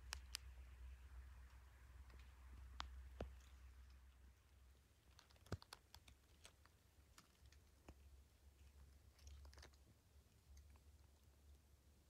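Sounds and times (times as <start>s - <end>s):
faint small clicks and ticks: 0.0s - 11.8s
faint low rumble: 0.0s - 12.0s.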